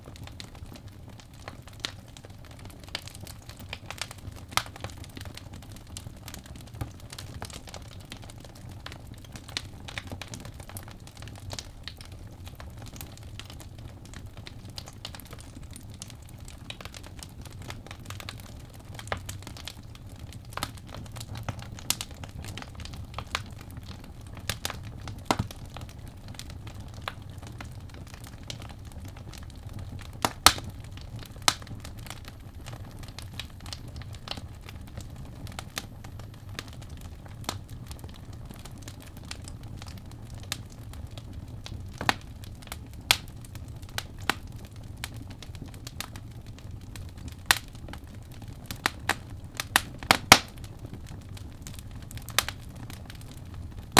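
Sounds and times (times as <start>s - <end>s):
low fire rumble: 0.0s - 53.9s
wood fire crackling: 0.0s - 53.9s.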